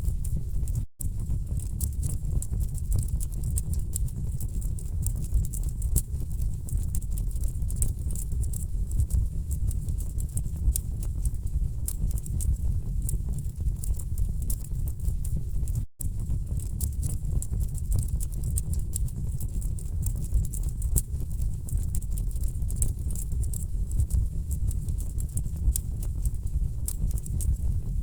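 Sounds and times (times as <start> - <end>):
low rumble of flames: 0.0 - 28.0.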